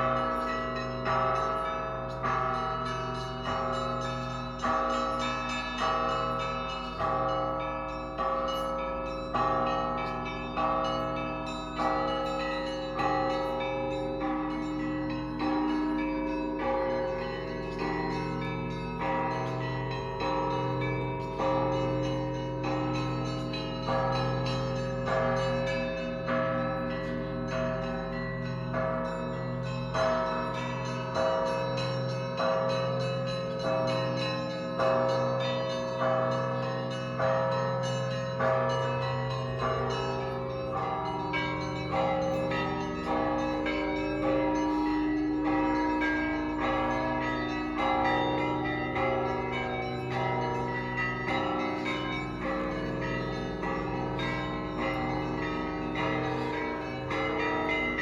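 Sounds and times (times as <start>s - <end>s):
smaller higher bells ringing: 0.0s - 58.0s.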